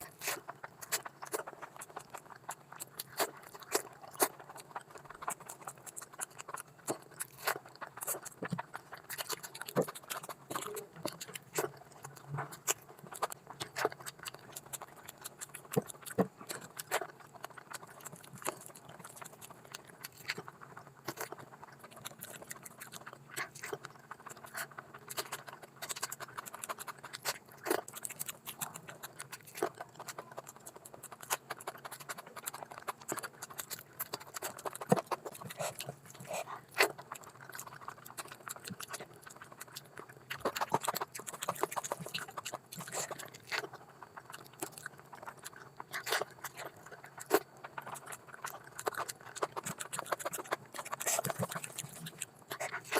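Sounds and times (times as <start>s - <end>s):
person chewing wetly: 0.0s - 52.9s.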